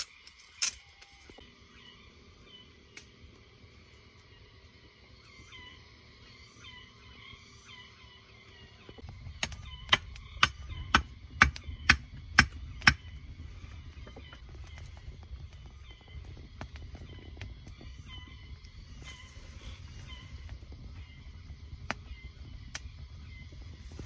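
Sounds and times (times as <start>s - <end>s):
faint short peeping calls: 4.2s - 24.0s.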